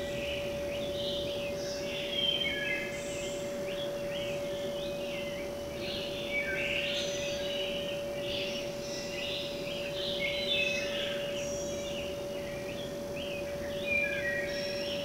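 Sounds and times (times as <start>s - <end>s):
small birds chirping: 0.0s - 15.0s
steady hum: 0.0s - 15.0s.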